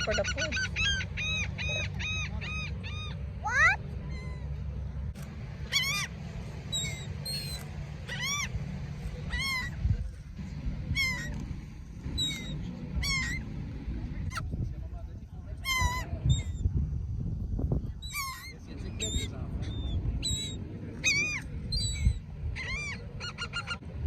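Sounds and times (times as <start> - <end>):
birds calling: 0.0 - 14.5, 15.4 - 16.7, 17.8 - 24.0
steady low rumble: 0.0 - 24.0.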